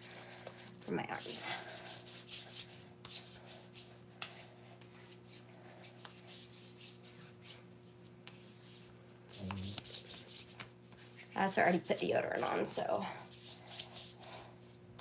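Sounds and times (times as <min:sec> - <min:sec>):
hands rubbing skin: 0:01.5 - 0:14.8.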